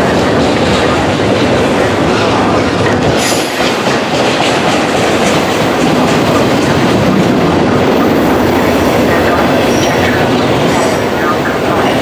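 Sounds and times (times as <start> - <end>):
rumble of passing railcars: 0.0 - 12.0
wheels clacking over rail joints: 0.0 - 12.0.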